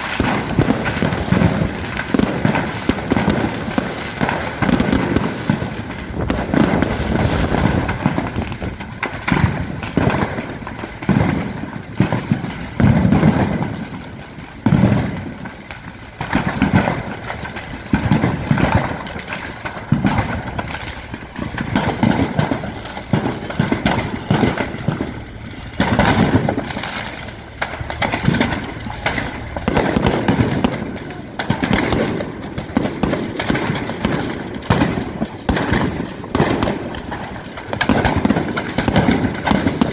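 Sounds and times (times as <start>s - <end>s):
deep firework thumps: 0.0s - 39.9s
fireworks bangs and crackles: 0.0s - 39.9s.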